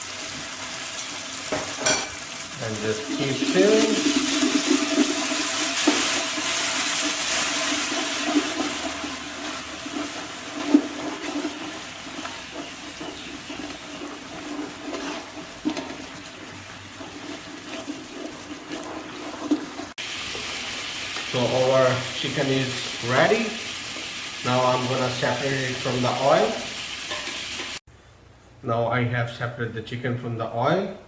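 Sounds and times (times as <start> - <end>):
chicken sizzling in hot oil: 0.0 - 27.9.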